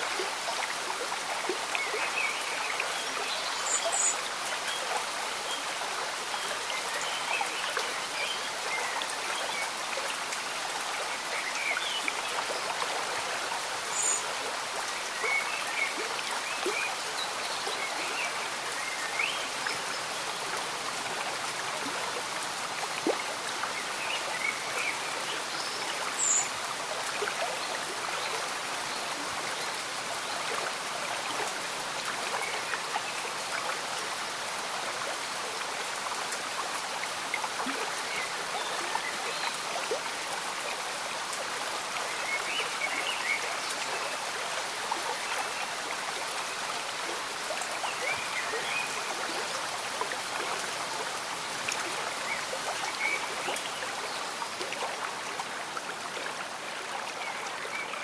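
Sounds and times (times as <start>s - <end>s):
light rain falling: 0.0s - 58.0s
stream bubbling and trickling: 0.0s - 58.0s.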